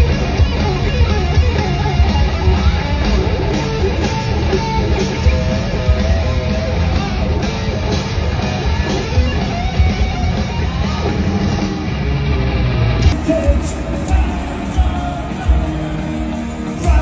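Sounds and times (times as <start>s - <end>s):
drum kit: 0.0s - 12.1s, 12.9s - 17.0s
electric guitar: 0.0s - 17.0s.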